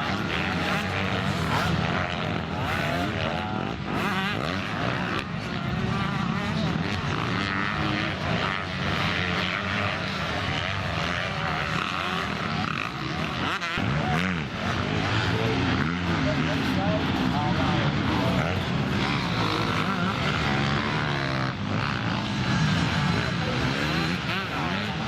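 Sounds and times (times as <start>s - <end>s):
motocross bikes revving: 0.0s - 25.0s.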